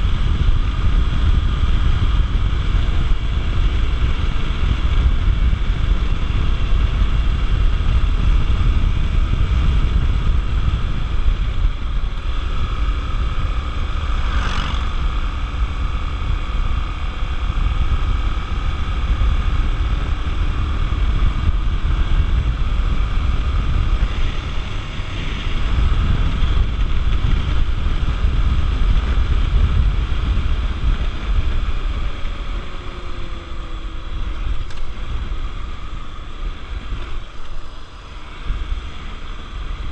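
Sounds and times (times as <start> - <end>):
motorcycle running at speed: 0.0 - 39.9
wind rush on microphone: 0.0 - 39.9.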